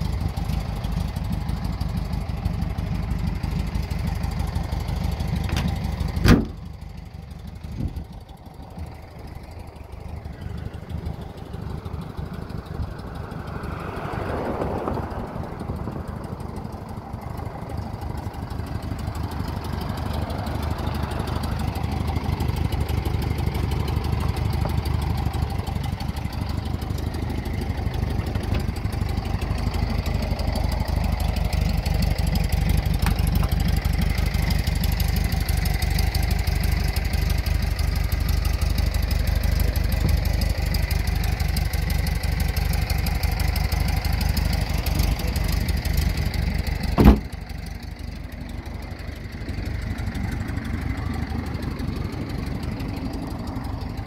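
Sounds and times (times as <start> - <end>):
air-cooled engine idling: 0.0 - 54.0.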